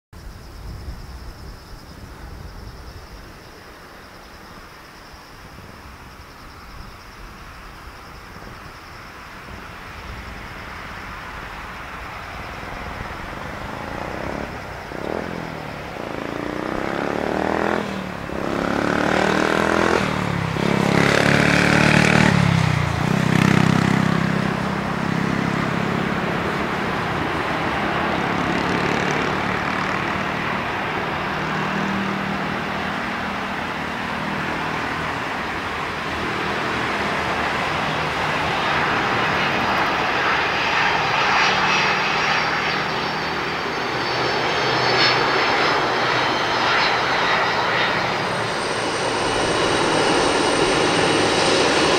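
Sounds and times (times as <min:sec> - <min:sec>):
jet engines landing: 0:00.2 - 0:51.9
jet reverse thrust roar: 0:07.2 - 0:51.9.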